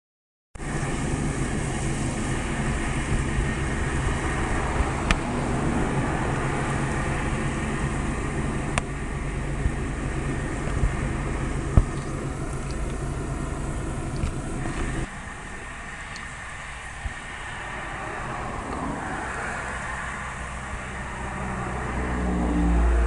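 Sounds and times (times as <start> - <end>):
low outdoor rumble: 0.6 - 23.0.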